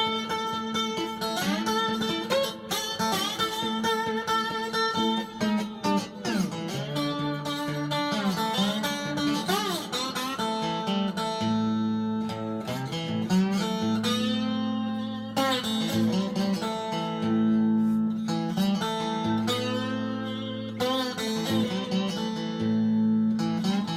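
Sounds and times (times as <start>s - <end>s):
slide guitar through amp: 0.0s - 23.9s.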